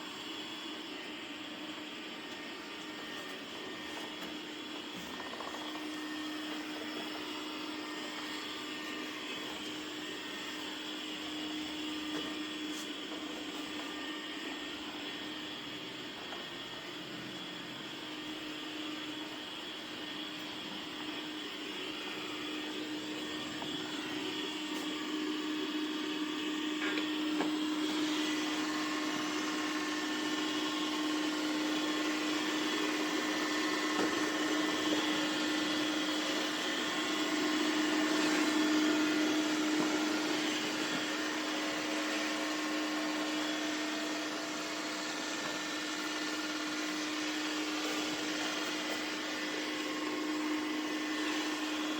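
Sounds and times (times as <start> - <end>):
robot vacuum running: 0.0 - 51.9.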